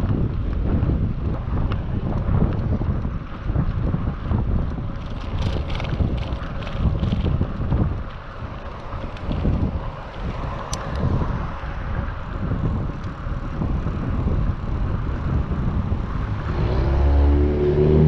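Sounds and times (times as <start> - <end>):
motor vehicle engine hum: 0.0 - 18.0
wind buffeting microphone: 0.0 - 18.0.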